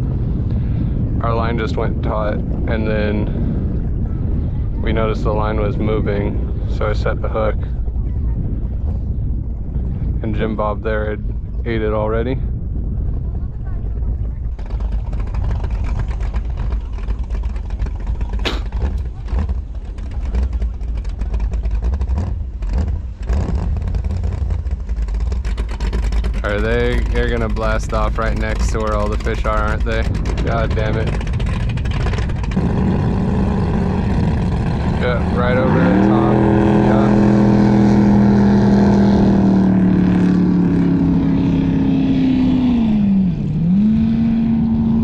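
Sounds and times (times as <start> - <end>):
speedboat engine running: 0.0 - 45.0
wind buffeting microphone: 0.0 - 45.0.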